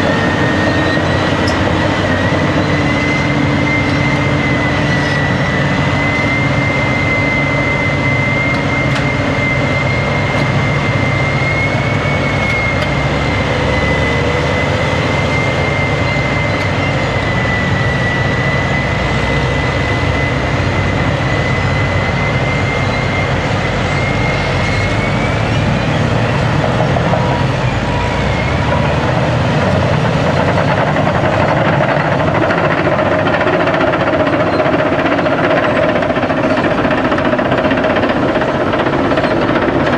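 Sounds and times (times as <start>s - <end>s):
heavy diesel engines under load: 0.0s - 39.9s
steady high whine: 0.0s - 39.9s.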